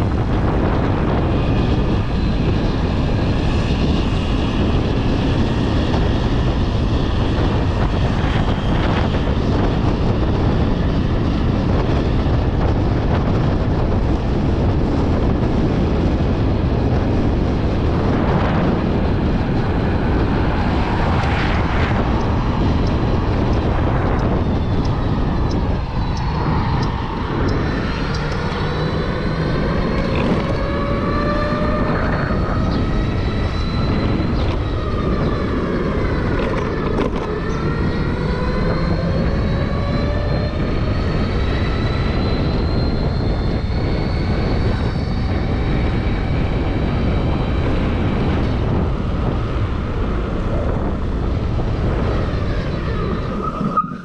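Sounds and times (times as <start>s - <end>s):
electric scooter motor whining: 0.0s - 54.0s
wind and road noise rumble: 0.0s - 54.0s.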